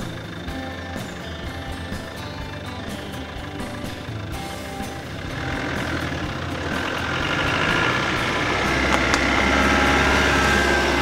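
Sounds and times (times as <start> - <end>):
vehicle engine driving past: 0.0 - 11.0.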